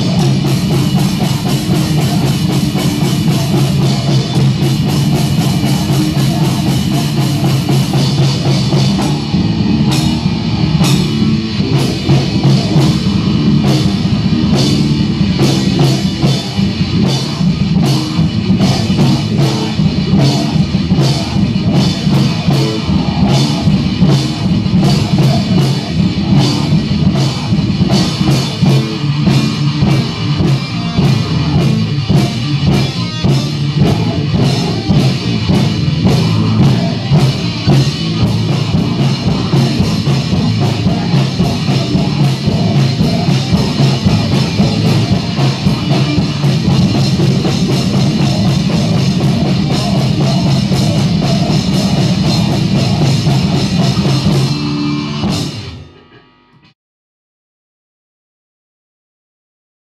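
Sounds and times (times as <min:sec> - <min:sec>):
fast drumbeat: 0:00.0 - 0:55.7
bass guitar: 0:00.0 - 0:56.8
distorted electric guitar: 0:00.0 - 0:56.8.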